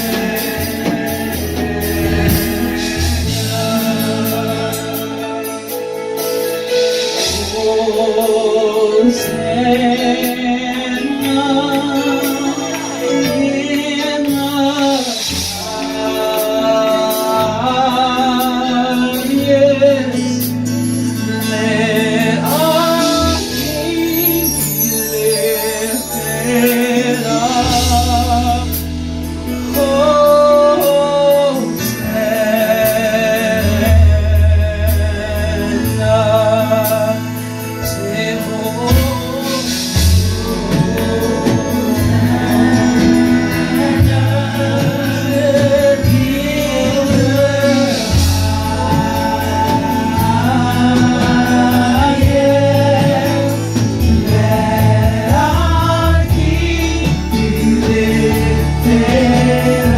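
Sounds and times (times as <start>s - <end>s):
sustained bass: 0.0s - 59.9s
worship team singing: 0.0s - 59.9s.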